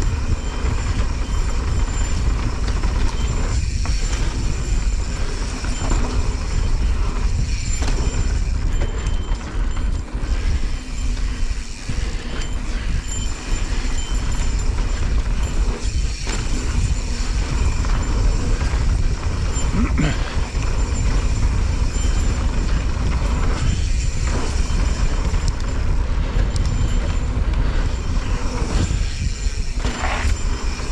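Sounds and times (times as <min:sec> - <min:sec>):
bike clicks and rattles: 0:00.0 - 0:30.9
tyres rushing on dirt: 0:00.0 - 0:30.9
wind buffeting microphone: 0:00.0 - 0:30.9.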